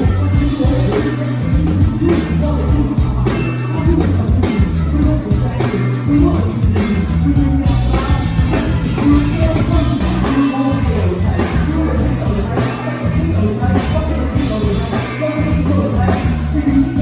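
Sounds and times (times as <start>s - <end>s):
drum kit: 0.0s - 17.0s
live band groove: 0.0s - 17.0s
person singing: 0.0s - 17.0s
strong bass line: 0.0s - 17.0s.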